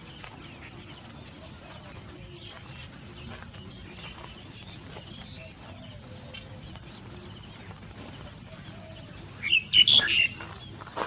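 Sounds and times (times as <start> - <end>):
faint bird calls and chirps: 0.0 - 11.0.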